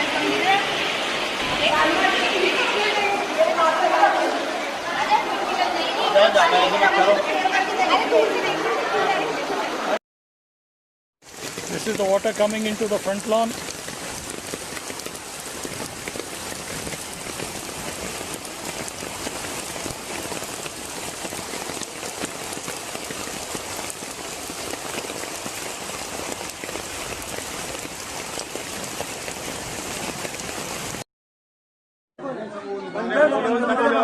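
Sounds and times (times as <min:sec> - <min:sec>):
heavy rain pouring: 0:00.0 - 0:10.0, 0:11.2 - 0:31.1.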